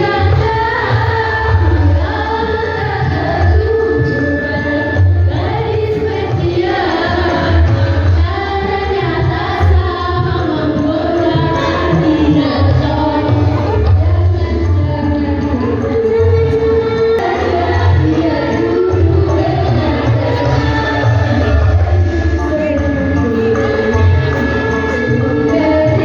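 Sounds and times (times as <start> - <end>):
accompaniment with strong bass: 0.0 - 26.0
choir singing: 0.0 - 26.0.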